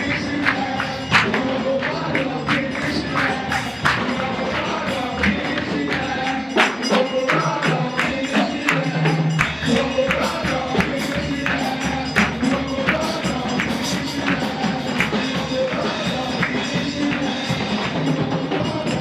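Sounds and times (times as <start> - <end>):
fast-beat praise music: 0.0 - 19.0.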